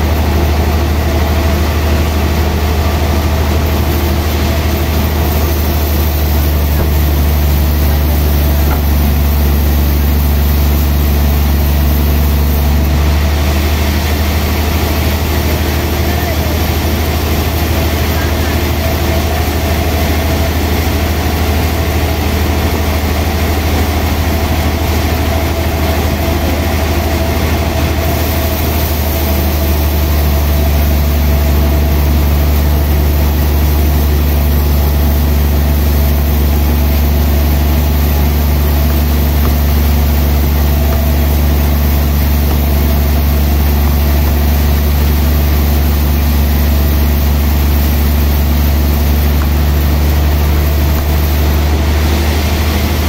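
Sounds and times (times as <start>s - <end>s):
band sawmill humming: 0.0s - 53.0s.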